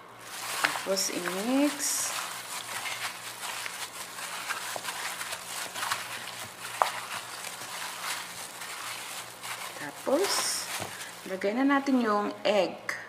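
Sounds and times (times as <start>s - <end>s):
raw chicken squishing in bowl: 0.1s - 11.5s.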